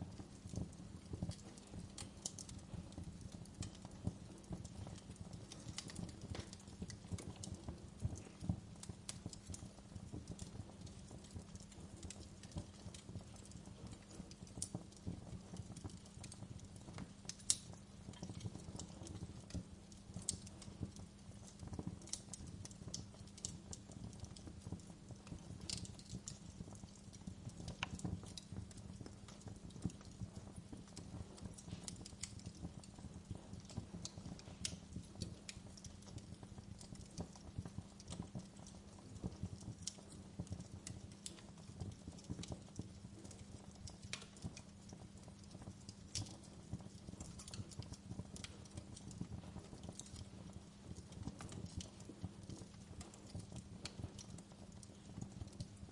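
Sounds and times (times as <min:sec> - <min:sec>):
wood fire crackling: 0:00.0 - 0:55.9
sharp pops and snaps: 0:00.1 - 0:55.9.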